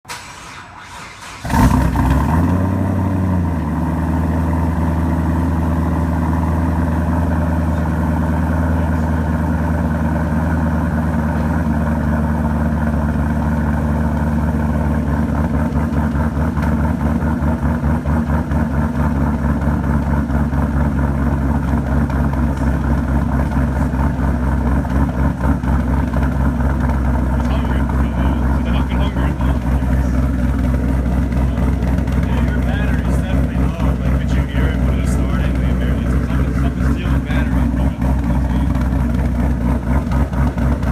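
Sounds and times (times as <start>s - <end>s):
car engine starting and idling roughly: 0.0s - 40.9s.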